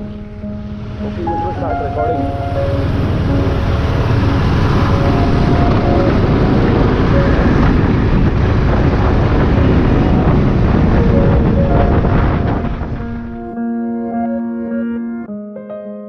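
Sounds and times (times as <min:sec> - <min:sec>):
motorcycle engine: 0:00.0 - 0:13.6
wind buffeting microphone: 0:00.0 - 0:13.6
road noise: 0:00.0 - 0:14.5.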